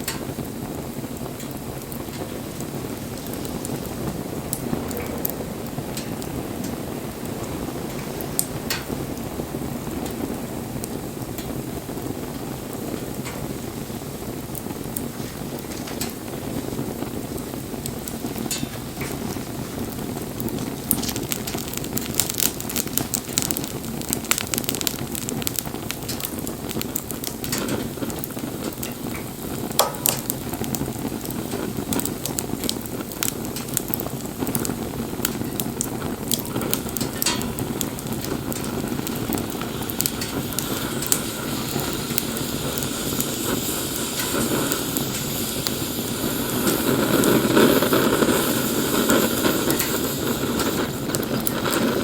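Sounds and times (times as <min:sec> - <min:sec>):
hiss of burning: 0:00.0 - 0:52.0
wood fire crackling and popping: 0:00.0 - 0:52.0.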